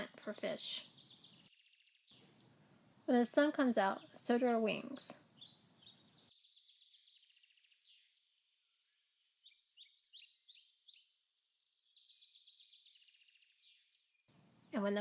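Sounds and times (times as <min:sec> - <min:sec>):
songbird chirps and trills: 0:00.0 - 0:15.0.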